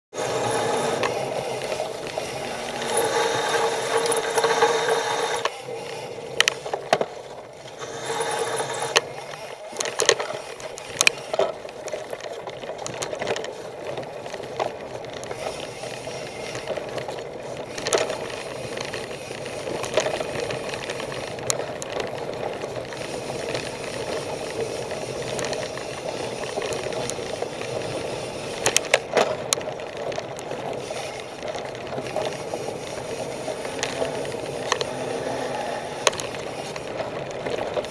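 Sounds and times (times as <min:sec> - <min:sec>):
tyre and wind noise: 0:00.1 - 0:37.9
bike chain rattling: 0:00.2 - 0:37.9.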